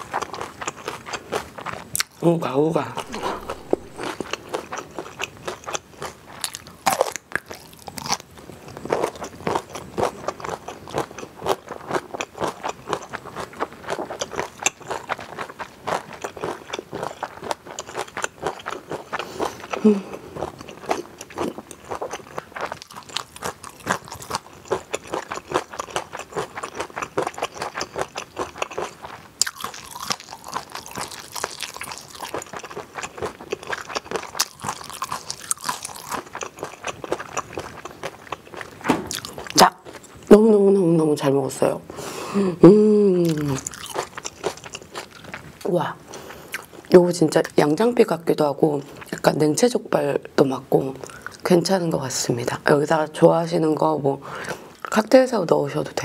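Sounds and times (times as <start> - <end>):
crunching and chewing: 0.0 - 40.3, 43.2 - 47.6, 51.0 - 51.4.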